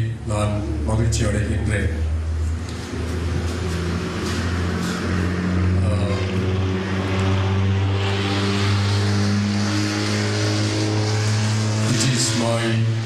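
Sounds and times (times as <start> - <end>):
motor droning: 0.0 - 13.0.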